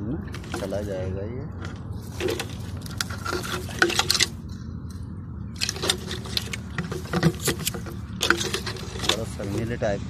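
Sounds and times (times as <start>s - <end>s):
steady low hum: 0.0s - 10.0s
rustling and crackling: 0.2s - 9.8s.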